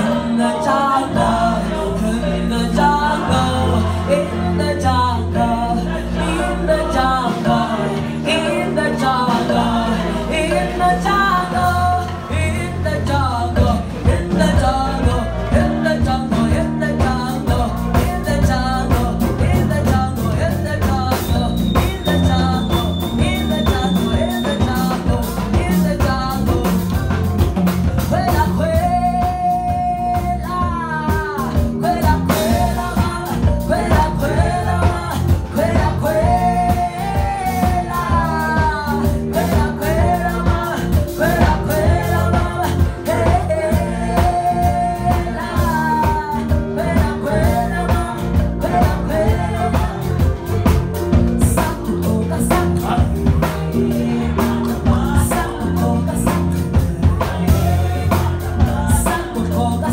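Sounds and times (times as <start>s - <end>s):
drums: 0.0s - 59.9s
electric bass: 0.0s - 59.9s
marimbas playing: 0.0s - 59.9s
women singing: 0.0s - 59.9s.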